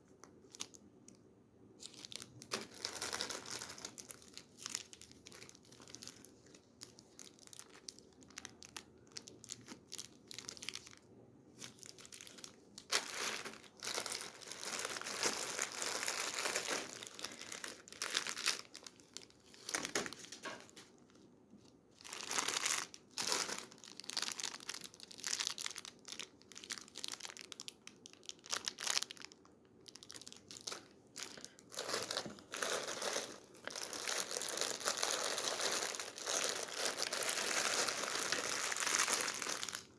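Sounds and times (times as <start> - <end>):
candy wrappers crinkling: 0.1 - 1.2, 1.8 - 39.9.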